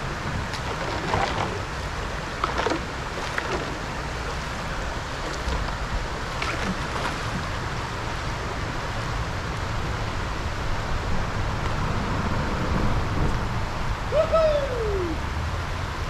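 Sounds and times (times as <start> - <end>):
water splashes: 0.0 - 15.2
river water rushing: 0.0 - 16.0.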